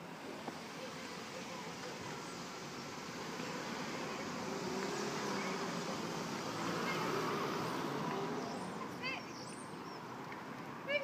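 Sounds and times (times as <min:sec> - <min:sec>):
outdoor street noise: 0:00.0 - 0:11.0
vehicle engine hum: 0:00.0 - 0:11.0.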